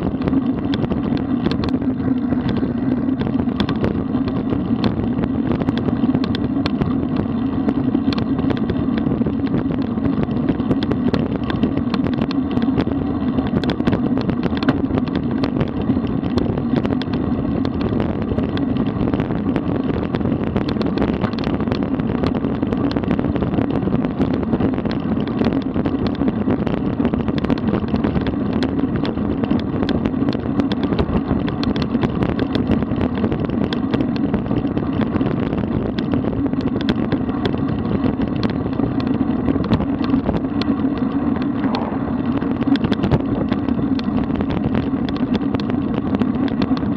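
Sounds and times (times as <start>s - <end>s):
bike ticks and rattles: 0.0s - 46.9s
wind and road noise: 0.0s - 46.9s.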